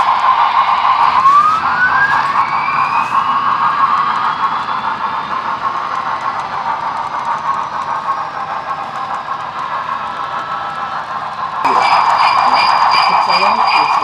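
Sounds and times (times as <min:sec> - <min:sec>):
model train whirring rumble: 0:00.0 - 0:14.0.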